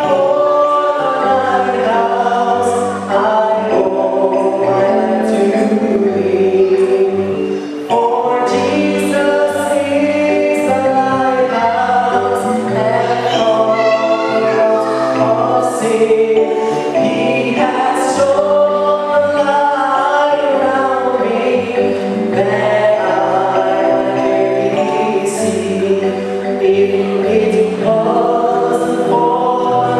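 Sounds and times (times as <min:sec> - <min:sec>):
choir singing a hymn: 0:00.0 - 0:29.9.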